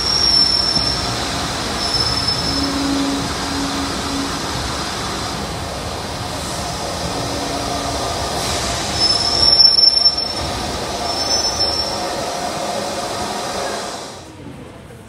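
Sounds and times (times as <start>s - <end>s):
wheels squealing on rails: 0.0s - 14.3s
train running rumble: 0.0s - 15.0s.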